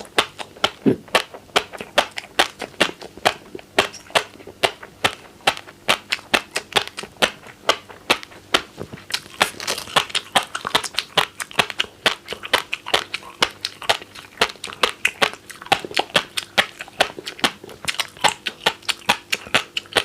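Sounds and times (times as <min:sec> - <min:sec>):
fish roe popping while chewed: 0:00.0 - 0:20.0.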